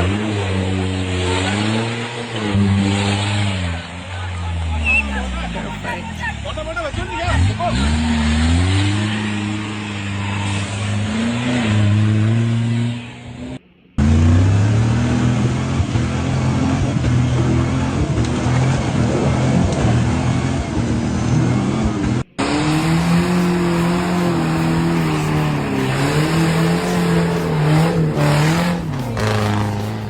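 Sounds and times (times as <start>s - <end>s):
off-road engines revving: 0.0s - 30.0s.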